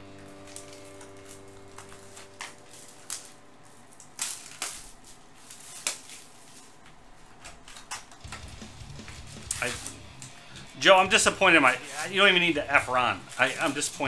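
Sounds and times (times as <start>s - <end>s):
plastic wrap crinkling and tearing: 0.0s - 14.0s.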